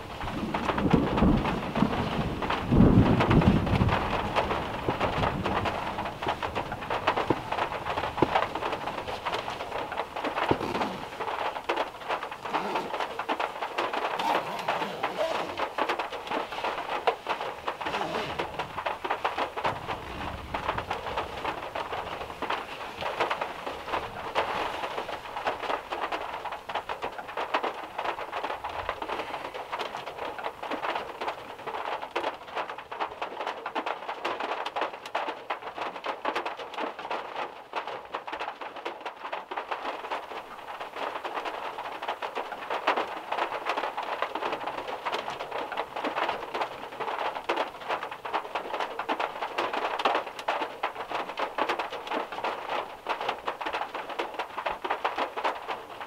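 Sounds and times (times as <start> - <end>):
heavy rain on a metal roof: 0.0 - 56.0.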